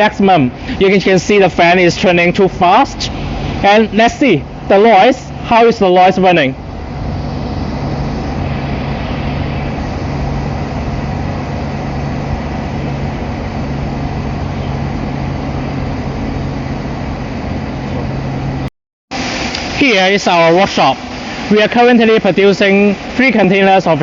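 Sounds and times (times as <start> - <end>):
low hum: 0.0 - 23.2
heat pump fan rushing air: 0.0 - 24.0.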